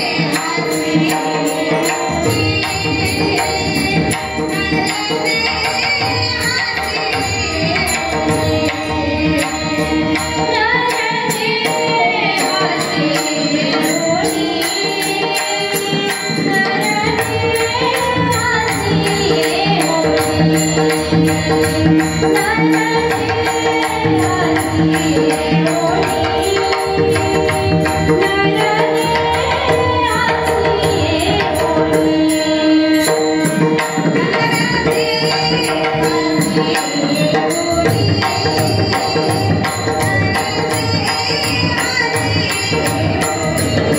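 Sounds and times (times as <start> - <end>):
percussion keeping beat: 0.0 - 43.9
person singing devotional tune: 0.0 - 43.9.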